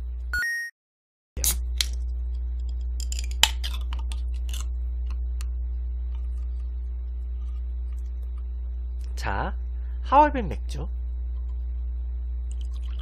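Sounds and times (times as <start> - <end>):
steady low hum: 0.0 - 0.3, 1.4 - 13.0.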